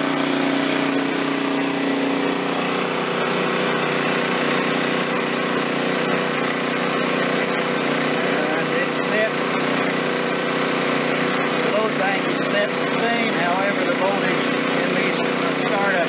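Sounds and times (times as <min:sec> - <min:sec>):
portable generator running: 0:00.0 - 0:16.0.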